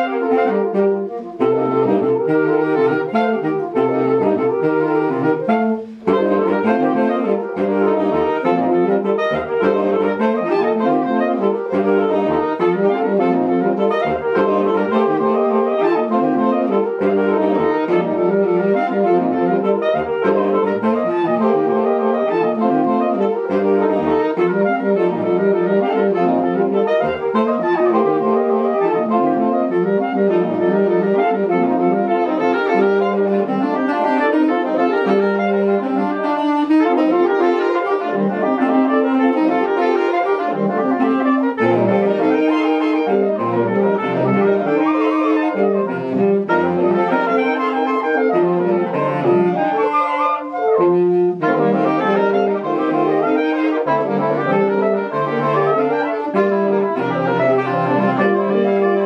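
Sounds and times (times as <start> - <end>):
saxophone quartet playing: 0.0 - 59.0.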